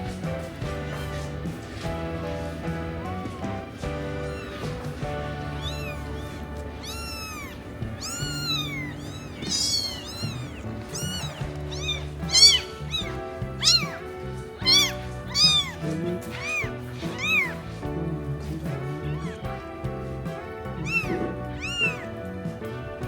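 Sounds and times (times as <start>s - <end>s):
background music: 0.0s - 23.0s
cat meowing: 2.9s - 23.0s.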